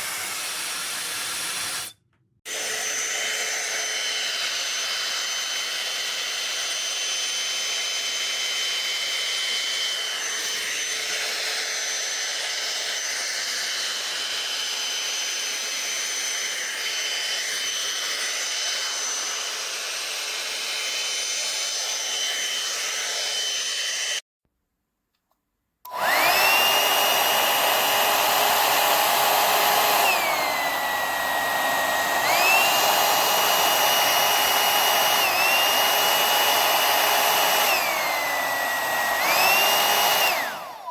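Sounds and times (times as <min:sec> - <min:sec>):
hair dryer air rush and whine: 0:00.0 - 0:24.2, 0:25.9 - 0:40.9.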